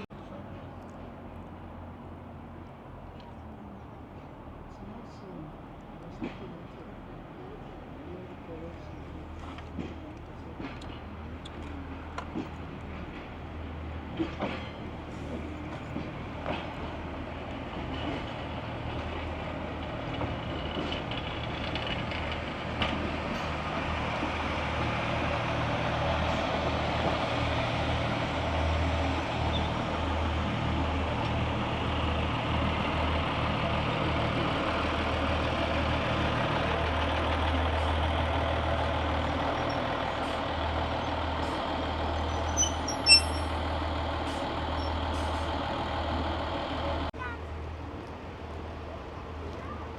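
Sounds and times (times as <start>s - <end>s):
train humming and hissing: 0.0s - 49.9s.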